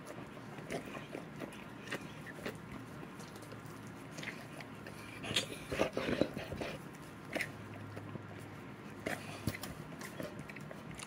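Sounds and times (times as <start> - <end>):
dog chewing on toy: 0.0 - 11.0.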